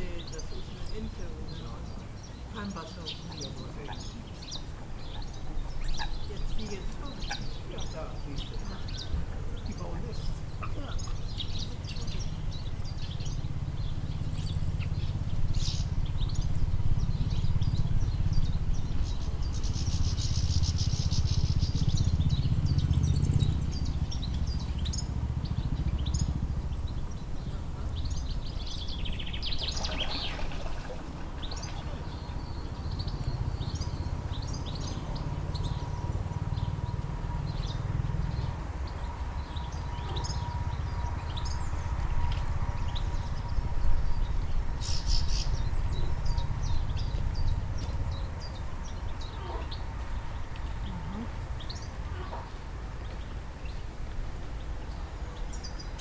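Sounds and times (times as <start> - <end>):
steady low rumble: 0.0 - 55.8
songbirds chirping: 0.0 - 56.0.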